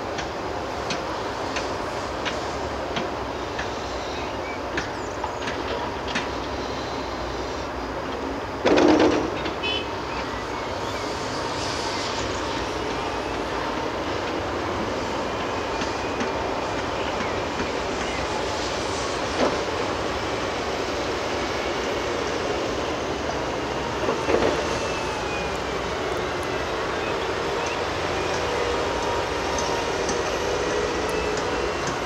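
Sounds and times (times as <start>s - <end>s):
heavy diesel engines running: 0.0s - 32.0s.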